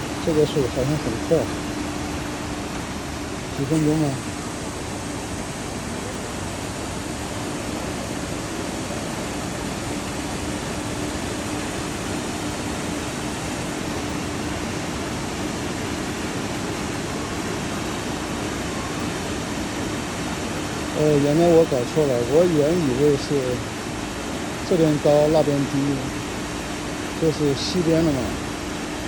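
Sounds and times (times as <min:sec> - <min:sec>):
constant low hum: 0:00.0 - 0:29.0
water rushing through sluices: 0:00.0 - 0:29.0.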